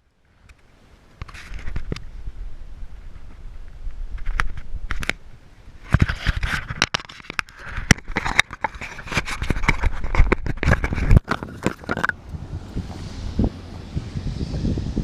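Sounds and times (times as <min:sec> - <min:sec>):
wind rumbling on microphone: 0:00.3 - 0:15.0.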